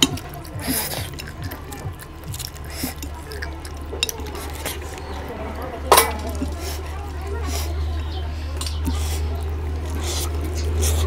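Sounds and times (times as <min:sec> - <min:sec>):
steady low hum: 0:00.0 - 0:11.0
wet chewing and lip-smacking: 0:00.0 - 0:11.0.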